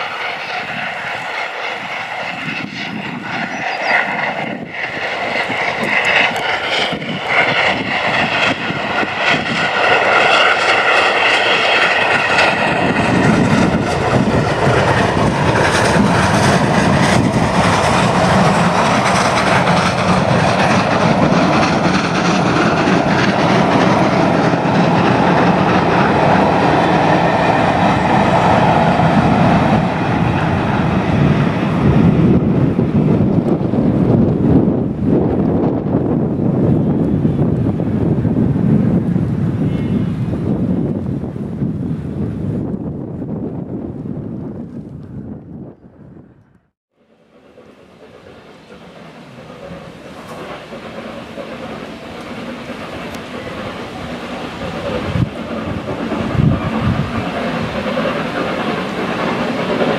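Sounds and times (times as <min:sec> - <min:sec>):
steam train passing: 0:00.0 - 0:44.5, 0:47.0 - 0:59.9.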